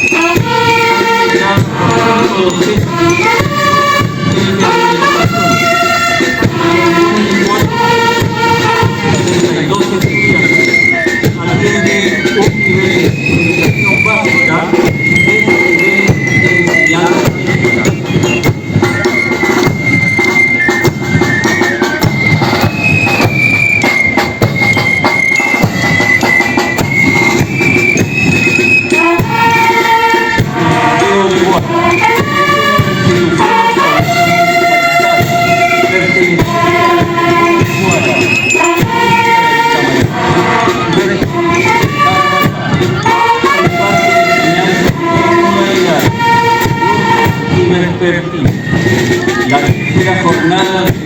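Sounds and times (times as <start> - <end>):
bass drum and snare march rhythm: 0.0 - 51.0
bugles playing high notes: 0.0 - 51.0
parade band music: 0.0 - 51.0.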